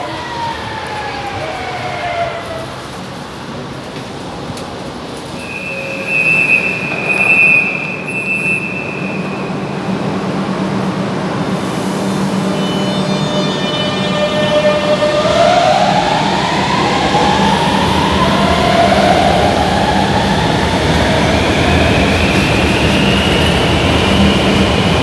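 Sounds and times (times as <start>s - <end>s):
train low hum: 0.0s - 25.0s.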